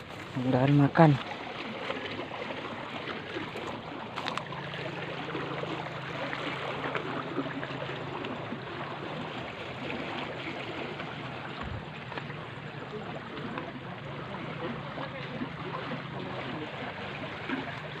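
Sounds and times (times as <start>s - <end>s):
floodwater rushing down a channel: 0.0s - 18.0s.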